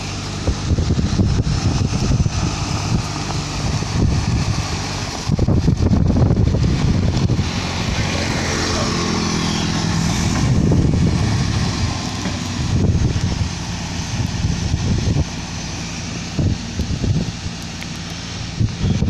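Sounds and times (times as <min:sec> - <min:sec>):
blade scraping gravel: 0:00.0 - 0:19.0
grader engine running: 0:00.0 - 0:19.0.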